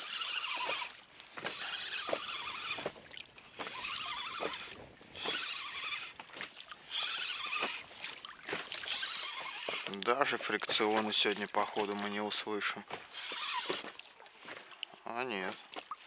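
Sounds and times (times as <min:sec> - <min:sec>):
fishing reel cranking: 0:00.0 - 0:12.5, 0:13.1 - 0:14.0.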